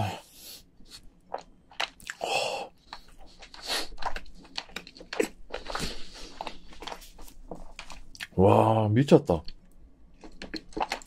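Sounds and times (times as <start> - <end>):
person chewing with wet smacks: 0.8 - 8.4, 9.5 - 11.0.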